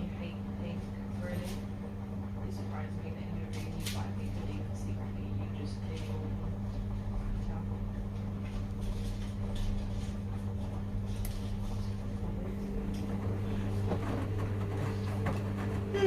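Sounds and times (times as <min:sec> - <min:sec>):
washing machines humming: 0:00.0 - 0:16.0.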